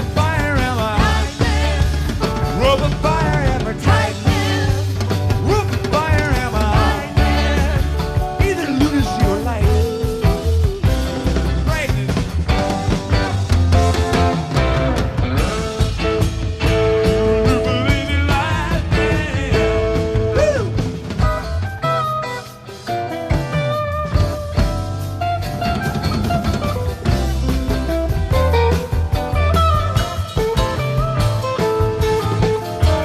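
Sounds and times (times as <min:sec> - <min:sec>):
drum kit: 0:00.0 - 0:33.0
electric guitars with bending leads: 0:00.0 - 0:33.0.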